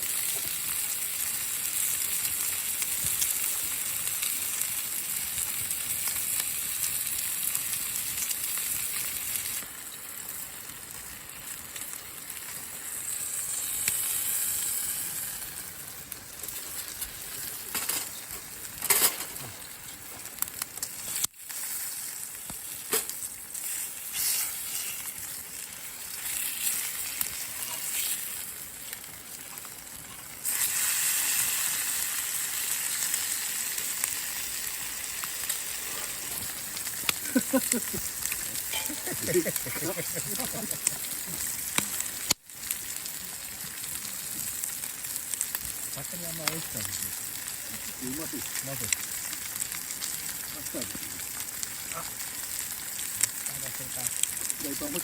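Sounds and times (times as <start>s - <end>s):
food sizzling in a pan: 0.0s - 55.0s.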